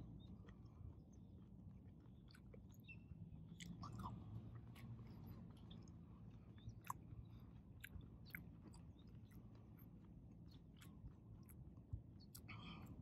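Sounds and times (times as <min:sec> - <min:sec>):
low steady hum: 0:00.0 - 0:13.0
faint chewing: 0:00.1 - 0:13.0.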